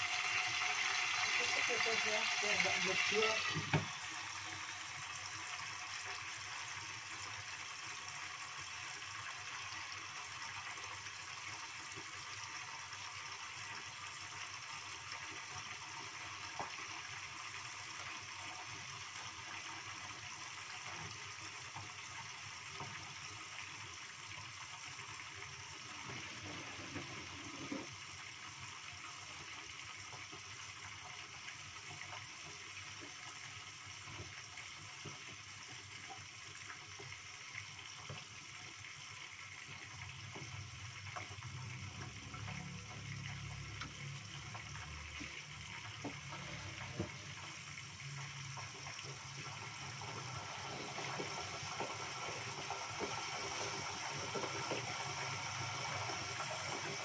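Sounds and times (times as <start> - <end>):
oil sizzling with small pops: 0.0 - 57.0.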